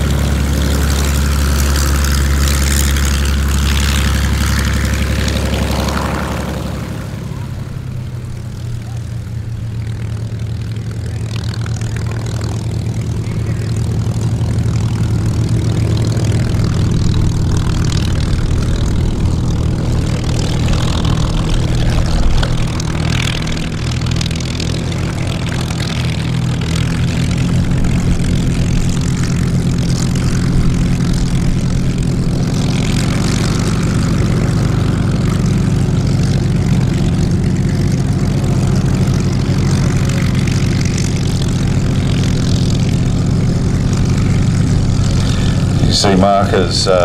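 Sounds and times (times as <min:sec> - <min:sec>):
aircraft piston engines running: 0:00.0 - 0:47.0.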